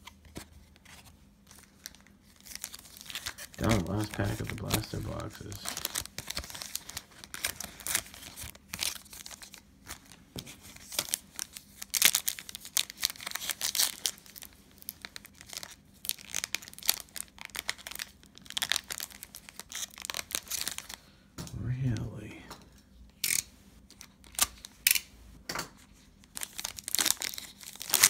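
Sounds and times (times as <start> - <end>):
foil wrapper tearing and crinkling: 1.5 - 21.0, 23.2 - 25.0, 26.2 - 28.0.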